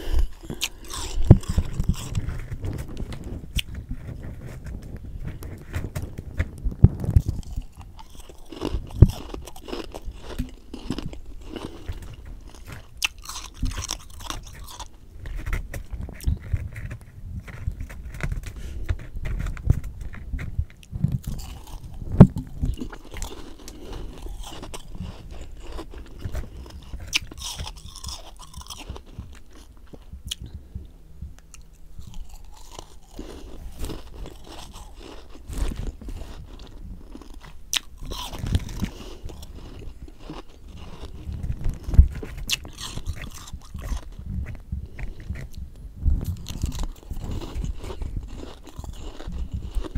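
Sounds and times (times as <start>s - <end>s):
crunching frost in mouth: 0.0s - 30.6s, 31.4s - 45.6s, 46.2s - 49.9s.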